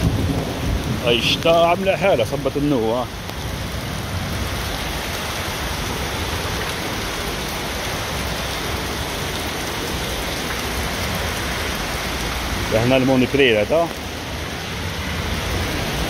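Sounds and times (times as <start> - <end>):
rain on wet pavement: 0.0 - 16.0.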